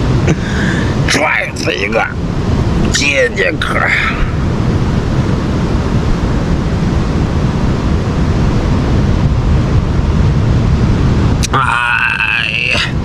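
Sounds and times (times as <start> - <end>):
ocean surf: 0.0 - 13.0
wind noise on microphone: 0.0 - 13.0.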